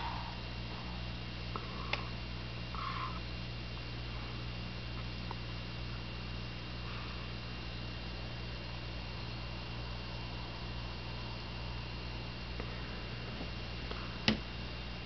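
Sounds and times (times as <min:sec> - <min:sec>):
aquarium equipment hum: 0:00.0 - 0:15.0
faint high whine and hiss: 0:00.0 - 0:15.0.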